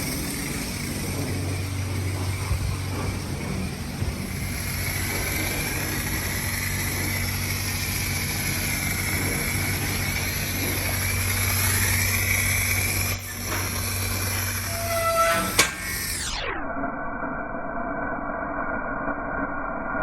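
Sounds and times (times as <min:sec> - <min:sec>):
car exhaust drone: 0:00.0 - 0:16.4
road noise: 0:00.0 - 0:16.4.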